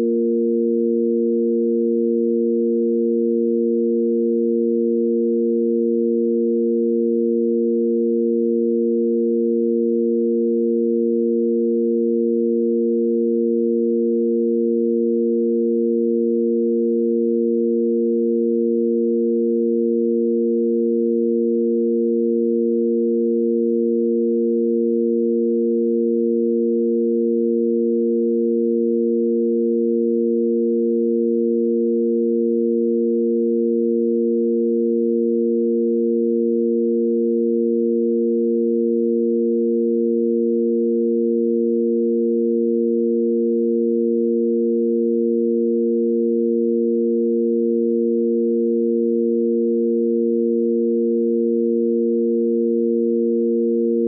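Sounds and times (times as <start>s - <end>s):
sine-wave drone: 0.0s - 54.0s.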